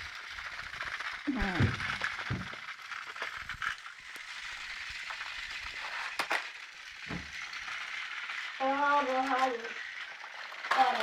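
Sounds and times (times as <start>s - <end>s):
toy trains rattling on track: 0.0s - 11.0s.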